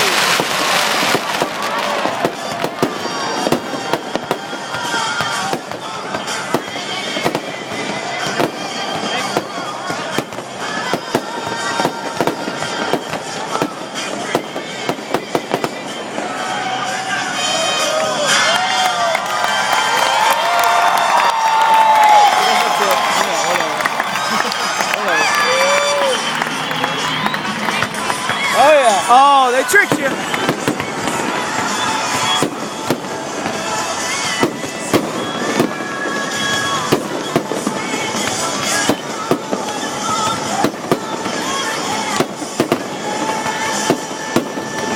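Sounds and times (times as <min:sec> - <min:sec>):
background music: 0:00.0 - 0:44.9
fireworks bangs and crackles: 0:00.0 - 0:44.9.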